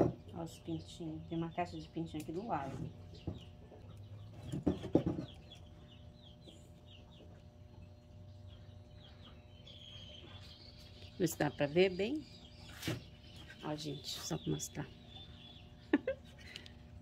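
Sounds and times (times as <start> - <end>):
baby chicks peeping: 0.3 - 16.8.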